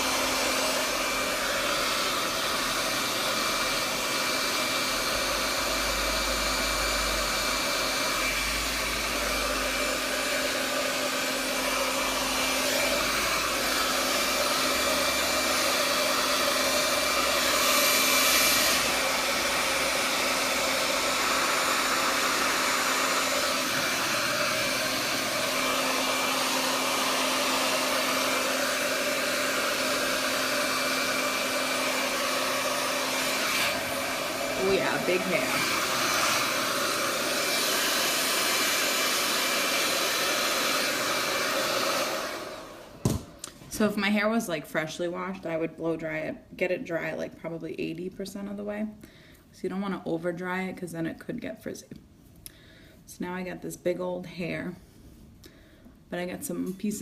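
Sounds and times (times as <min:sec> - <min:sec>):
hair dryer running: 0:00.0 - 0:48.7, 0:56.2 - 0:57.0.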